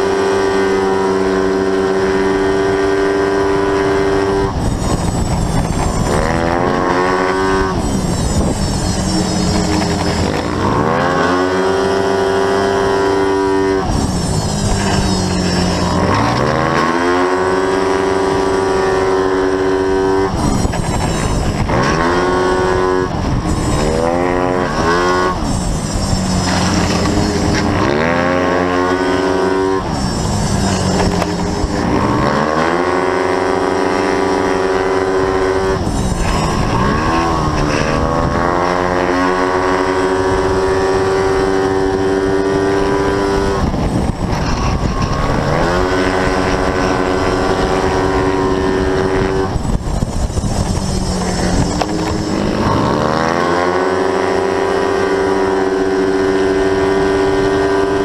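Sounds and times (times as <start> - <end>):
scooter engine revving: 0.0 - 58.0.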